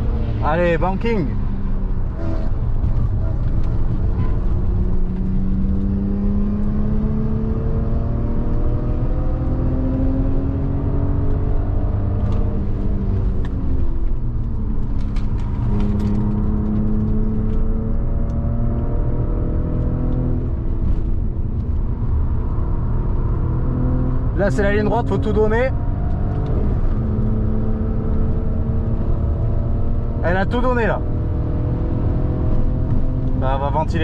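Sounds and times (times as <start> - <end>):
car engine pulling hard: 0.0 - 34.0
road and tyre rumble: 0.0 - 34.0.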